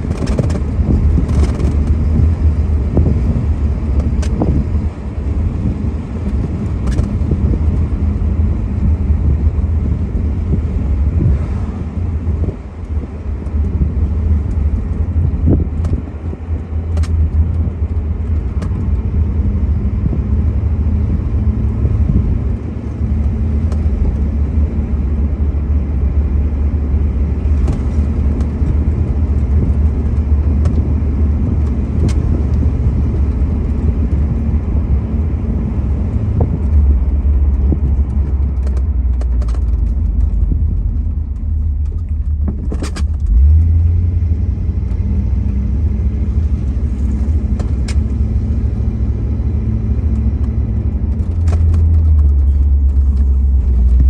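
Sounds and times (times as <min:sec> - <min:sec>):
car engine running: 0:00.0 - 0:54.0
tyre and road noise: 0:00.0 - 0:54.0.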